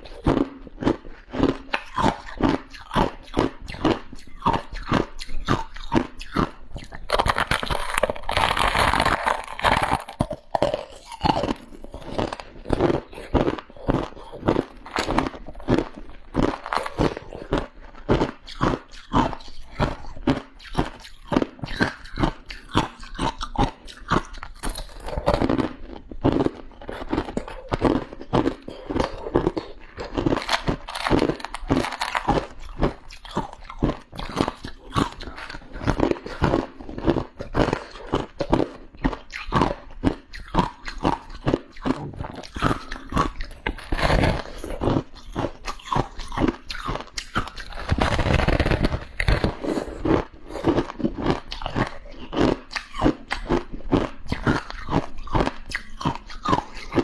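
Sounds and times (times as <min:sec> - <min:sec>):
frost being chewed: 0:00.0 - 0:57.0.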